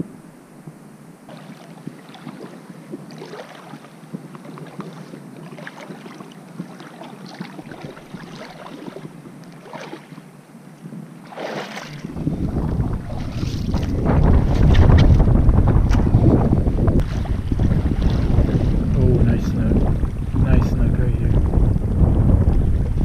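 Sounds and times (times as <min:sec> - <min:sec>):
wind buffeting microphone: 0:00.0 - 0:23.0
water splashing and sloshing: 0:01.3 - 0:23.0.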